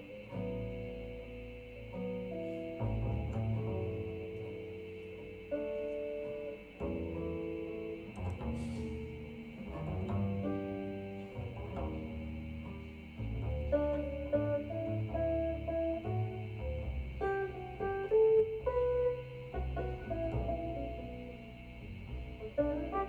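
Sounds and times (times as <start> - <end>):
jazz guitar and bass through loudspeakers: 0.0 - 23.0.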